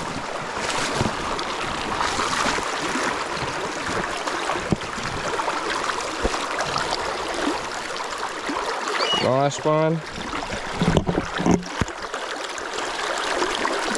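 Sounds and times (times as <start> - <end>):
river water running: 0.0 - 13.9.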